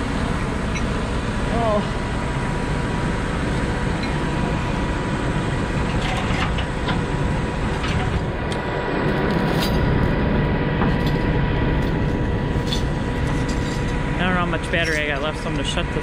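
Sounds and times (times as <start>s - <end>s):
faint steady whine: 0.0s - 16.0s
truck engine running: 0.0s - 16.0s.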